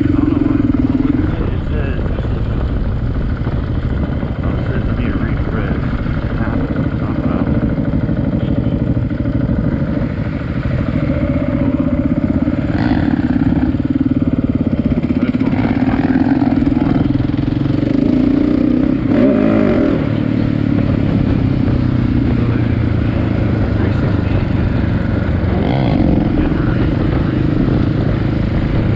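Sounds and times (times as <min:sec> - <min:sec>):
dirt bike engine running: 0:00.0 - 0:28.9.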